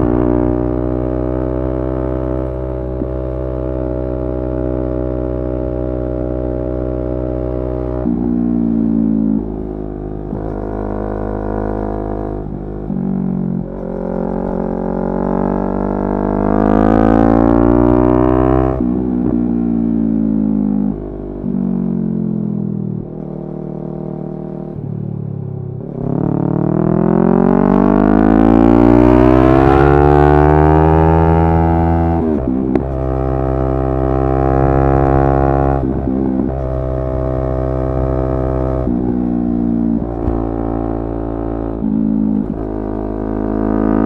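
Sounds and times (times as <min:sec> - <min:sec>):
motorcycle engine revving through gears: 0:00.0 - 0:44.0.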